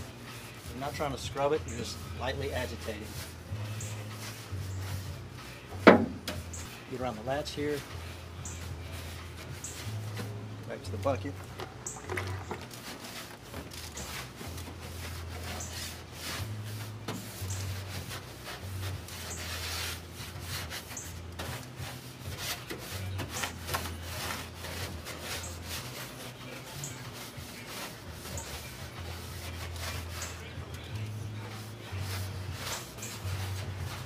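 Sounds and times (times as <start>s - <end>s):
brush scrubbing wet metal: 0.1s - 34.0s.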